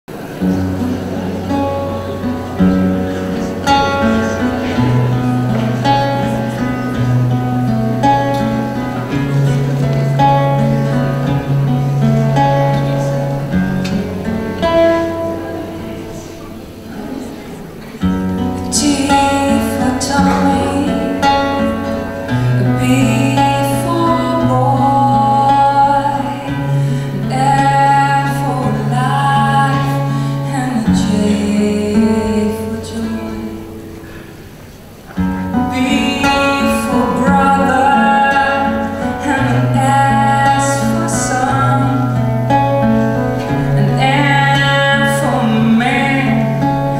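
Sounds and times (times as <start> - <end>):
plucked guitar: 0.1 - 46.9.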